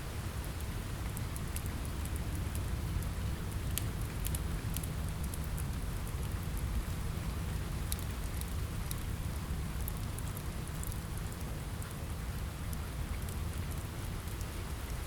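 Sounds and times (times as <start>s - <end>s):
rain on a window: 0.1s - 15.0s.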